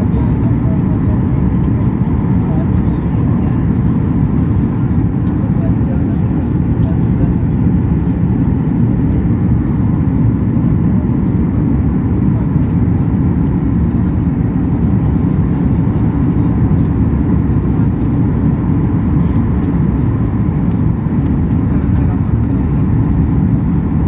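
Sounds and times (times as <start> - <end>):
airliner cabin engine roar: 0.0 - 24.0.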